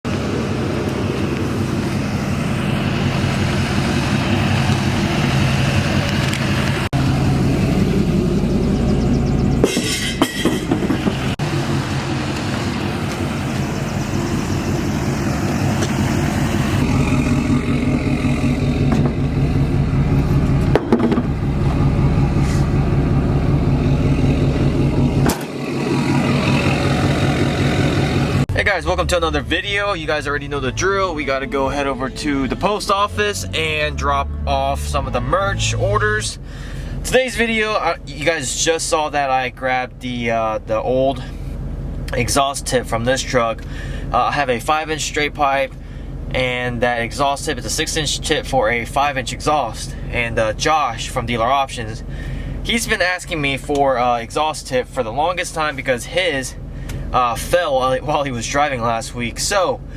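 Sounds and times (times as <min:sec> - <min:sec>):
loud diesel engine exhaust: 0:00.1 - 0:59.9.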